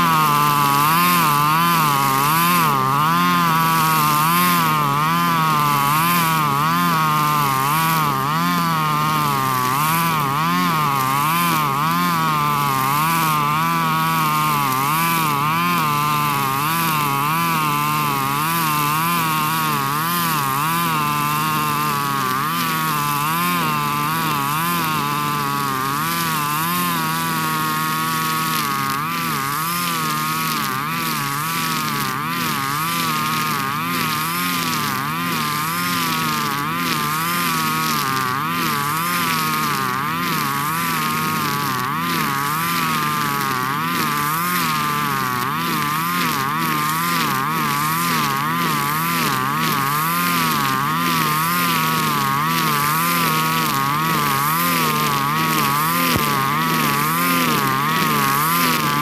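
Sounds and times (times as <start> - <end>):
brush cutter cutting grass: 0.0 - 59.0.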